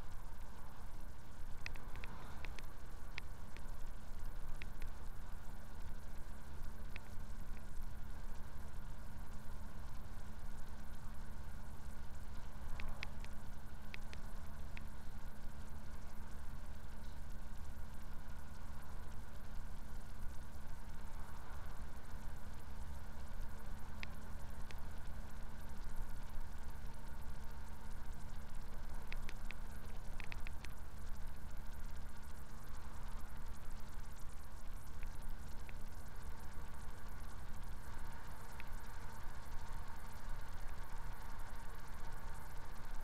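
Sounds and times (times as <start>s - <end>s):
faint ticks: 0.0s - 43.0s.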